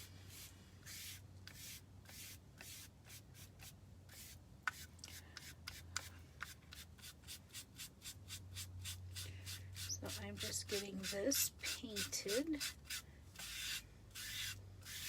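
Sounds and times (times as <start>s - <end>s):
foam brush stroking paint: 0.0s - 15.0s.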